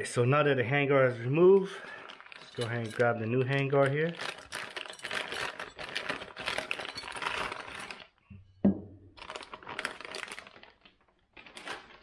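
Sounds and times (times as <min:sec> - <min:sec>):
plastic bag crinkling: 0:00.0 - 0:08.2, 0:09.1 - 0:12.0.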